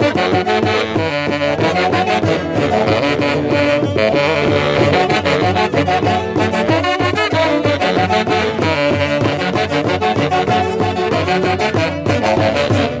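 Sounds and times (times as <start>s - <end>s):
saxophone band playing: 0.0s - 13.0s.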